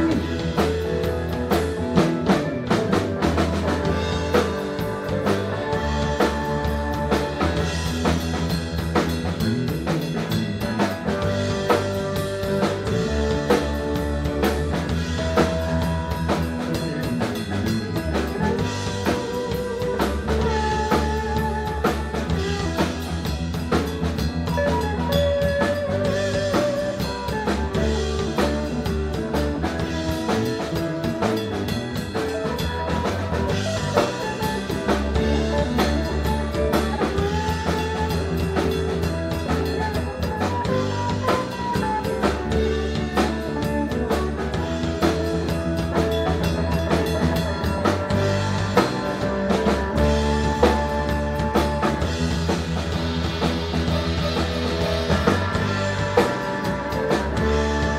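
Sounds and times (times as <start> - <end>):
bass guitar: 0.0 - 57.9
drum kit beat: 0.0 - 57.9
electric guitar: 0.0 - 57.9
electric keyboard: 0.0 - 57.9.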